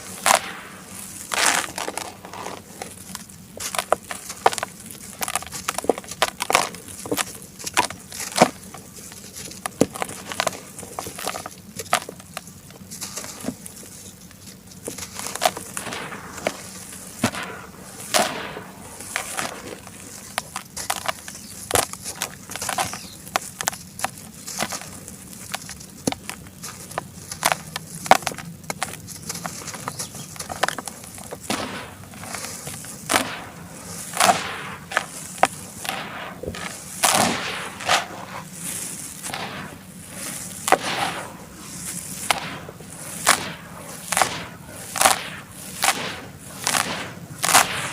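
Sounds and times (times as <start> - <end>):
charcoal crunching and cracking: 0.0 - 47.9.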